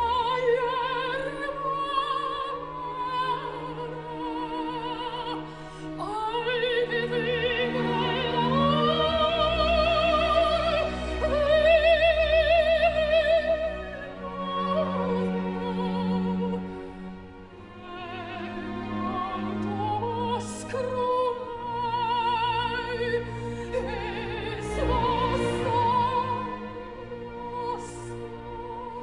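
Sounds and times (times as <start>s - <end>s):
orchestra: 0.0s - 29.0s
soprano singing operatically: 0.0s - 29.0s.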